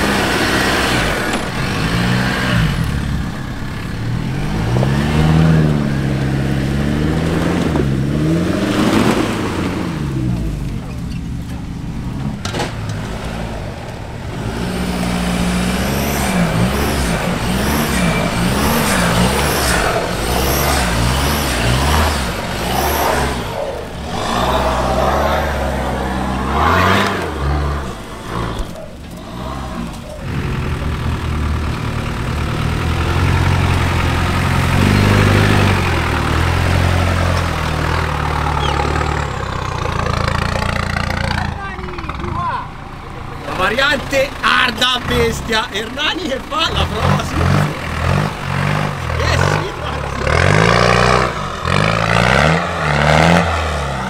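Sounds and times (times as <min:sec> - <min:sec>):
off-road engine revving under load: 0:00.0 - 0:54.0.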